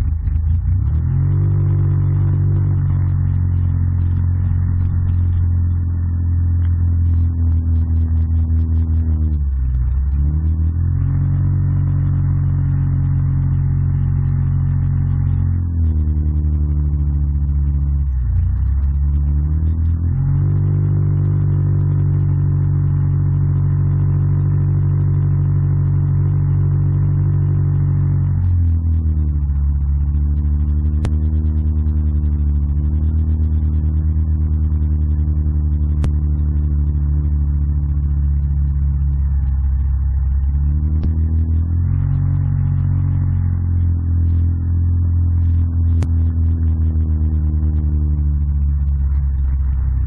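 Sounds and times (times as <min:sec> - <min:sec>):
atv engine running under load: 0:00.0 - 0:50.0.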